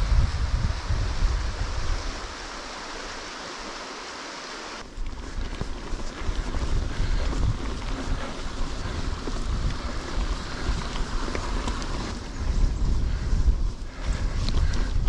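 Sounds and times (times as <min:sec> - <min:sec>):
wind rumble on microphone: 0:00.0 - 0:03.2, 0:04.8 - 0:15.0
steady hiss: 0:00.0 - 0:15.0.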